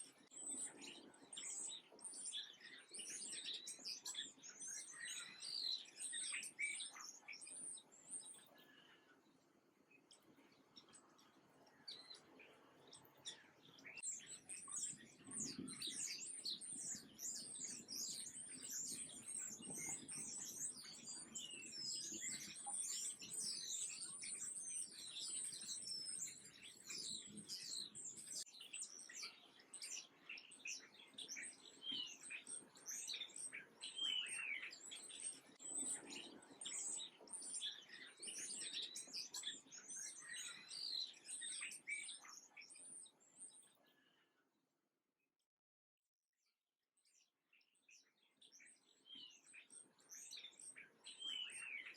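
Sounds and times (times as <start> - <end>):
small birds chirping: 0.0 - 44.6, 47.0 - 51.9.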